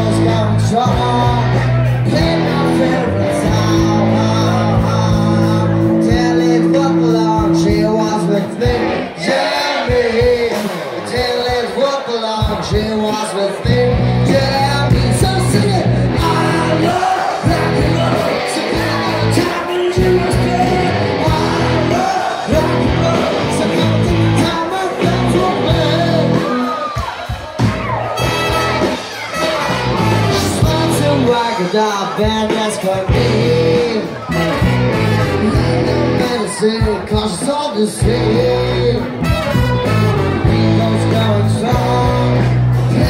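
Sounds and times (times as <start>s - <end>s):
lead vocal singing: 0.0s - 27.4s, 29.5s - 39.4s, 40.2s - 43.0s
crowd shouting and singing along: 0.0s - 43.0s
live rock band playing: 0.0s - 43.0s.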